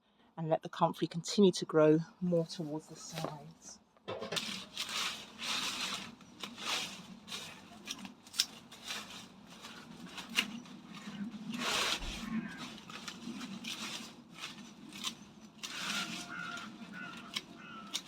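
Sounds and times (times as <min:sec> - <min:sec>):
leaves and stems rustling: 0:02.4 - 0:18.0.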